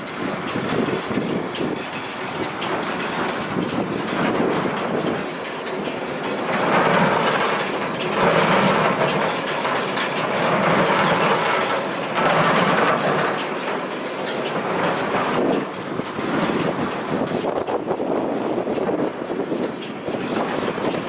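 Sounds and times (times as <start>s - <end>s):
baler mechanism clattering: 0.0s - 21.0s.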